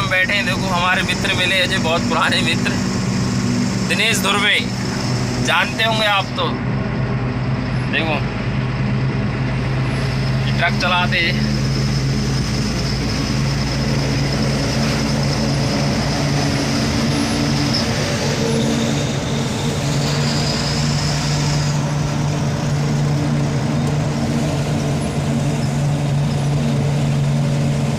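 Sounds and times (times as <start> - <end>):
road noise: 0.0 - 27.9
truck diesel engine running: 0.0 - 27.9.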